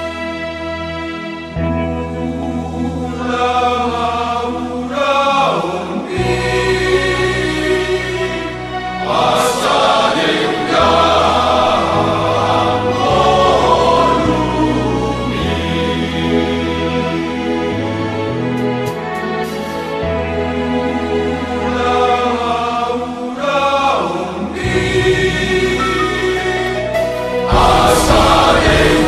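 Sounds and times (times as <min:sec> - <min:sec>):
choir singing a hymn: 0:00.0 - 0:29.0
keyboard accompaniment: 0:00.0 - 0:29.0.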